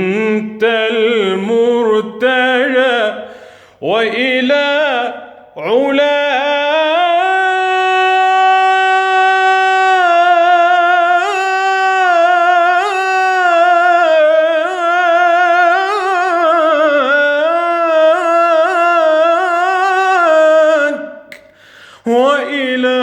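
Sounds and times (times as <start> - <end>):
man reciting in melismatic song: 0.0 - 23.0.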